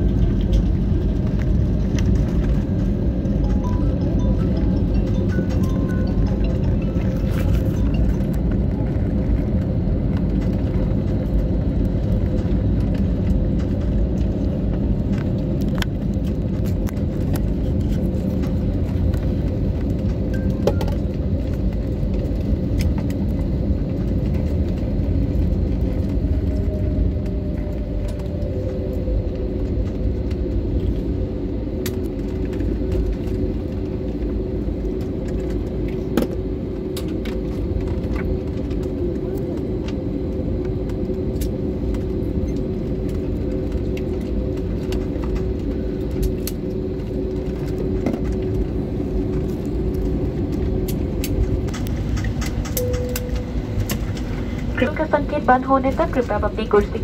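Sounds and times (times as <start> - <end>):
airliner rumble in cabin: 0.0 - 57.0.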